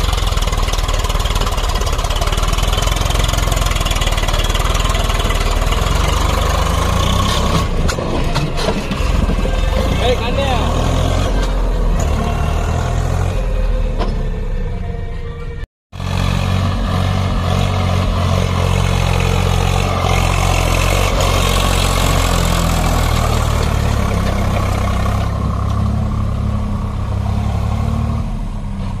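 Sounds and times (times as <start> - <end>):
tractor diesel engine passing: 0.0 - 29.0.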